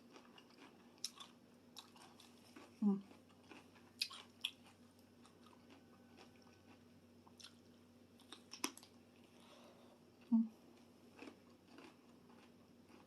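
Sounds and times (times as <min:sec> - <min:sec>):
chewing salad: 0:00.0 - 0:09.6, 0:10.2 - 0:13.0.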